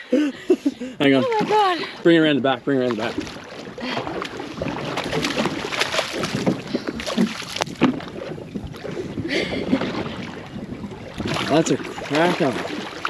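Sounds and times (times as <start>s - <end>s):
water splashing against boat hull: 1.0s - 13.0s.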